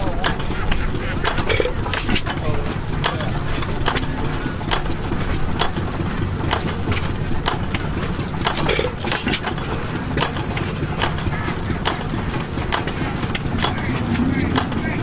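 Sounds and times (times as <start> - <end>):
gas engine exhaust pops: 0.0 - 15.0
low engine rumble: 0.0 - 15.0.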